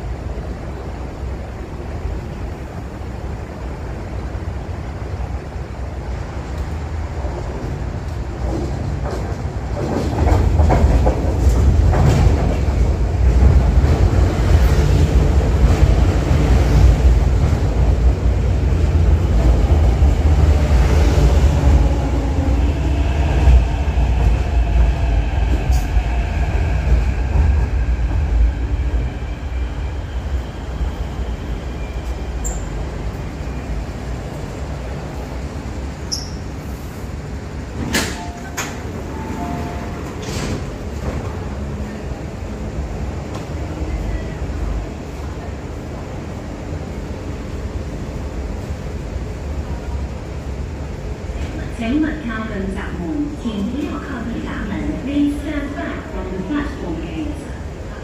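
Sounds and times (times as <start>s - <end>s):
train rumbling in: 0.0s - 58.0s.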